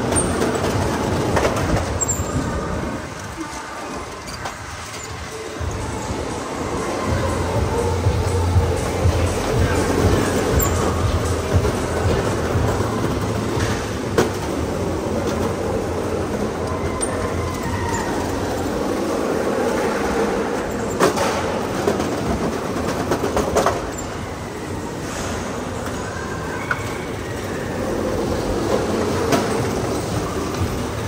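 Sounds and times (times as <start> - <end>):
small wheels rolling on concrete: 0.0 - 31.0.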